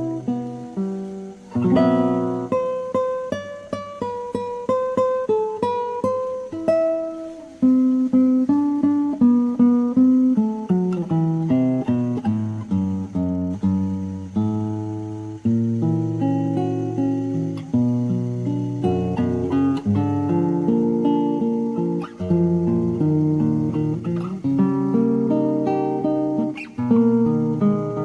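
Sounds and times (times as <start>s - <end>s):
acoustic guitar melody: 0.0s - 28.0s.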